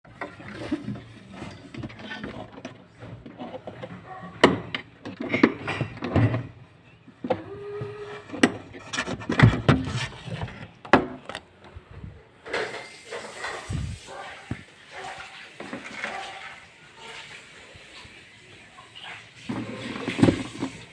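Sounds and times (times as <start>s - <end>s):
objects clattering: 0.1s - 18.1s, 18.9s - 20.9s.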